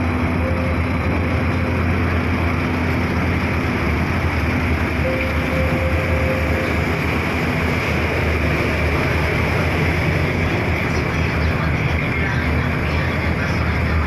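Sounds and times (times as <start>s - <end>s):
ferry engine rumble: 0.0s - 14.0s
water and air noise: 0.0s - 14.0s.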